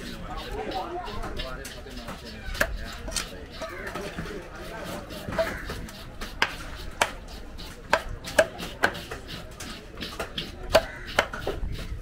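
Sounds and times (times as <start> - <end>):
cleaver chopping on wooden block: 2.0 - 12.0.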